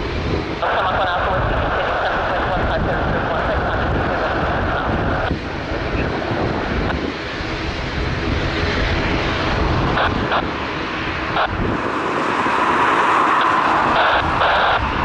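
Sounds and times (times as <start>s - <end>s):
jet airliner engines rumbling: 0.0s - 15.0s
jet engine whine: 0.0s - 15.0s.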